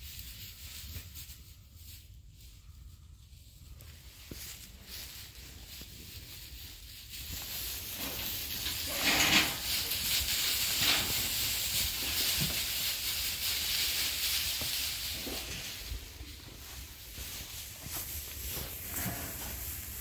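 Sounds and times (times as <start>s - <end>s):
sheep rustling through straw: 0.0s - 20.0s.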